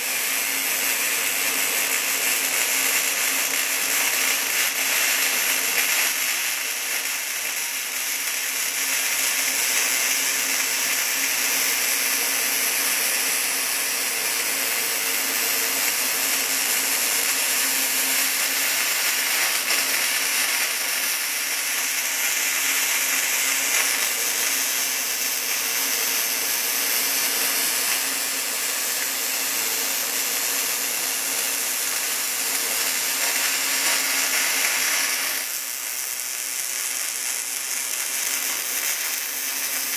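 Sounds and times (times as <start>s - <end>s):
welding arc sizzling: 0.0s - 39.9s.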